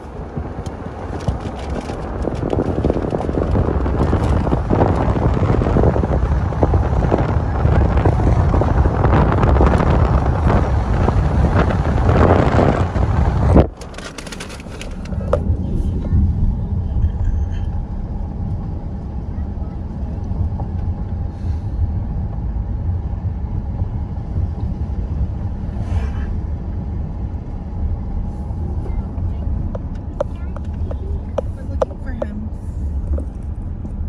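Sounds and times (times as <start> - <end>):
road and wind noise: 0.0 - 34.0.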